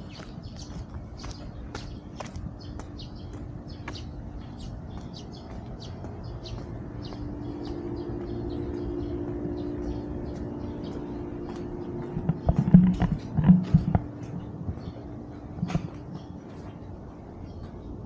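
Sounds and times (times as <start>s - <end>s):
birds chirping: 0.0s - 18.0s
steady hum: 1.1s - 18.0s.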